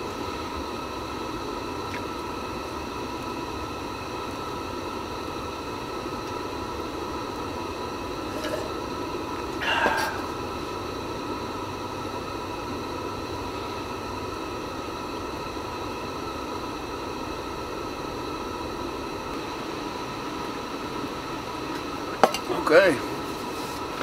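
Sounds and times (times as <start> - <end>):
gas burner hissing: 0.0 - 24.0.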